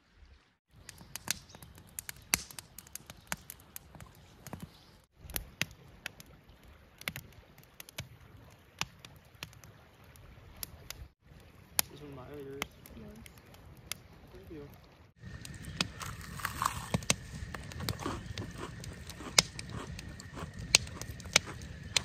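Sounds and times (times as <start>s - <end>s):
campfire crackling and popping: 0.7s - 22.0s.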